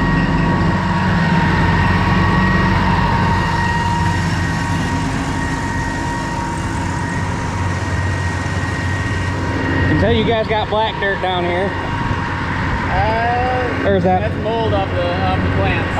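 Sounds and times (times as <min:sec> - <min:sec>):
constant high whine: 0:00.0 - 0:15.9
heavy diesel machinery running: 0:00.0 - 0:15.9.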